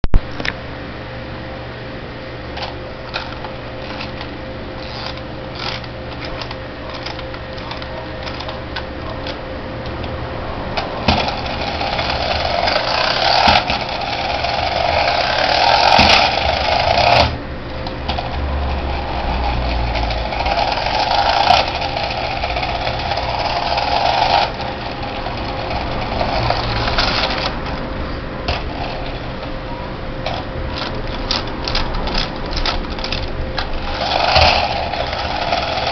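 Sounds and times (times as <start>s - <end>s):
toy motor whirring and rattling: 2.6s - 9.4s, 10.8s - 17.4s, 18.0s - 27.8s, 28.5s - 29.5s, 30.2s - 35.9s.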